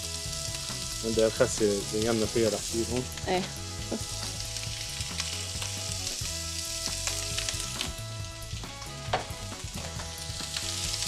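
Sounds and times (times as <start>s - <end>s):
food sizzling and bubbling in pans: 0.0s - 11.0s.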